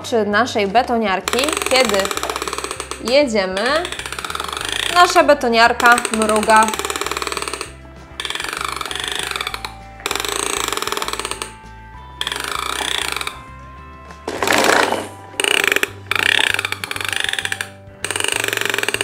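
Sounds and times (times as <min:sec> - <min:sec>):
toy truck wheel ratcheting clatter: 0:01.2 - 0:19.0.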